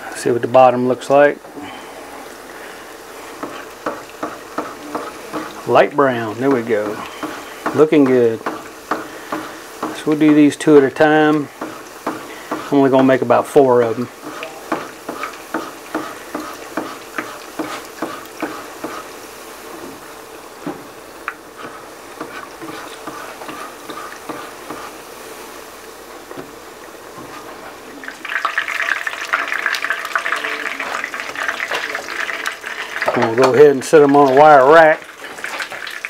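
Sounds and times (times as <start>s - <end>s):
quesadillas sizzling in oil: 0.0s - 36.0s.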